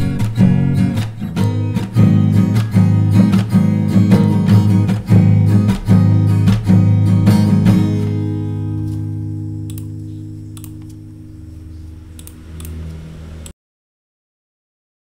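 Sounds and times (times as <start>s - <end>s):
acoustic guitar strumming: 0.0s - 12.9s.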